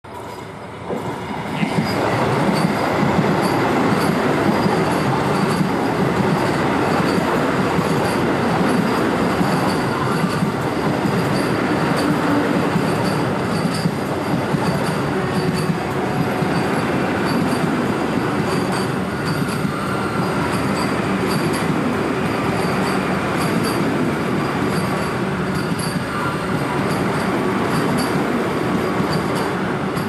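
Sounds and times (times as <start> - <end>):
train passing at speed: 0.1 - 30.0.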